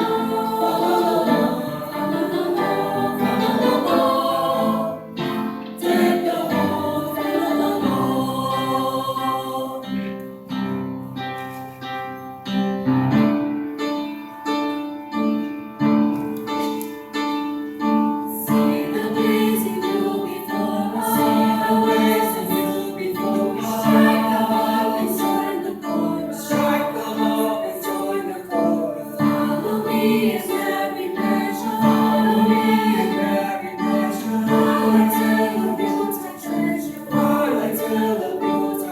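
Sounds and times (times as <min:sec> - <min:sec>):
school chorus singing: 0:00.0 - 0:10.5, 0:18.2 - 0:38.9.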